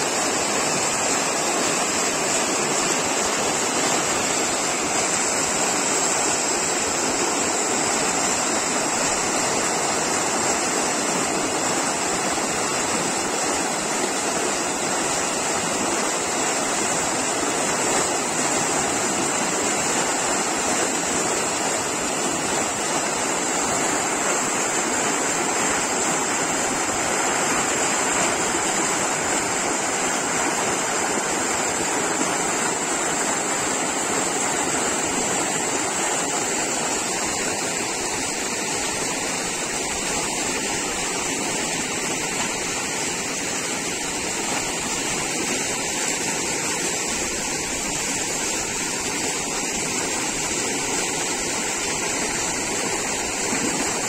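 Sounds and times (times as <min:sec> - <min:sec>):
water rushing through sluice: 0:00.0 - 0:54.0.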